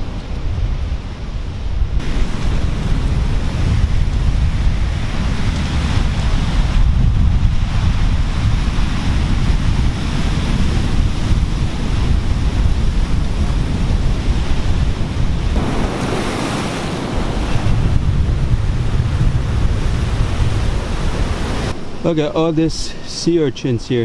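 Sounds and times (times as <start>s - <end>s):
wind buffeting microphone: 0.0s - 22.0s
surf breaking over rocks: 2.0s - 22.6s.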